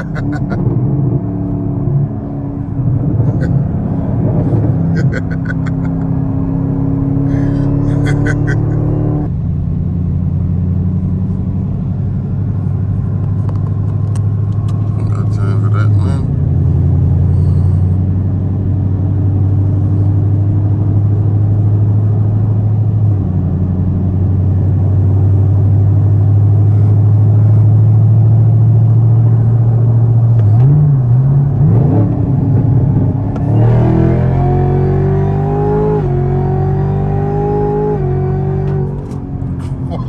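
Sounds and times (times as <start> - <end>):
car engine droning and accelerating: 0.0 - 40.0.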